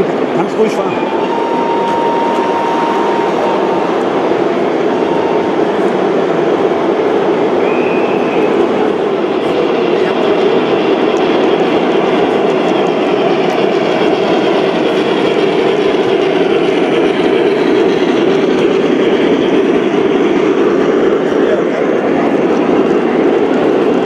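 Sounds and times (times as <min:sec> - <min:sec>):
model train wheels rumbling on rails: 0:00.0 - 0:24.0.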